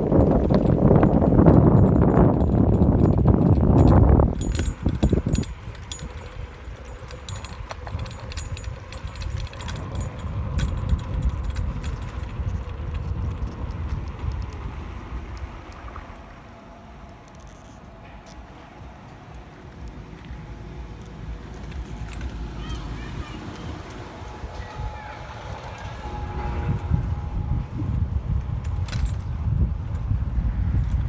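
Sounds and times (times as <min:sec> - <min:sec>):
bicycle tyres rumbling on pavement: 0:00.0 - 0:31.0
bike rattling and ticking: 0:00.0 - 0:31.0.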